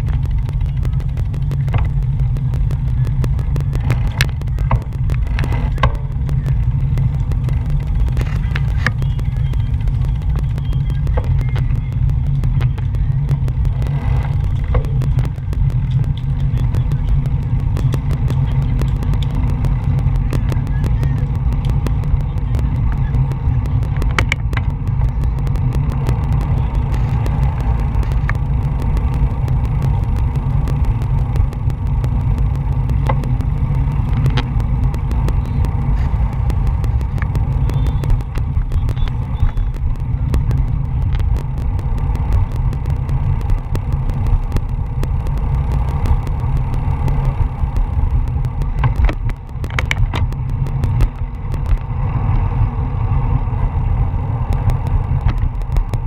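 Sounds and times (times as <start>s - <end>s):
sharp clicks: 0.0s - 52.7s, 54.0s - 56.0s
bicycle rolling over pavement: 0.0s - 56.0s.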